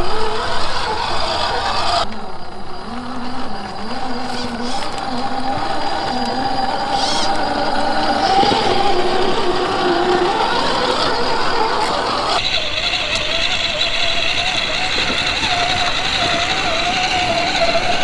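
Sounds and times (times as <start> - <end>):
electric motor and gearbox whine: 0.0 - 18.0.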